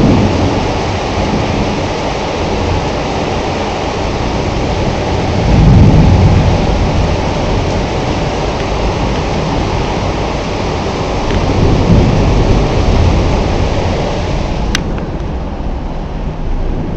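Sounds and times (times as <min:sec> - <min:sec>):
heavy rain falling: 0:00.0 - 0:16.9
thunder rumble: 0:00.0 - 0:16.9.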